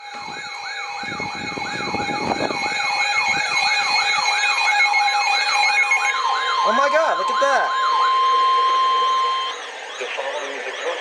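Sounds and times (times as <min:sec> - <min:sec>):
electronic siren yelping: 0:00.0 - 0:11.0.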